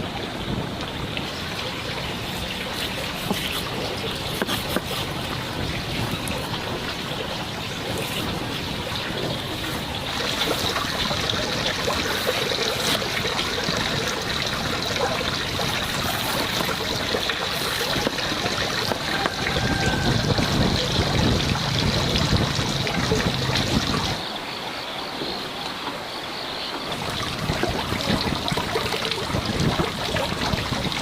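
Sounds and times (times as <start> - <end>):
water running and trickling: 0.0 - 31.0.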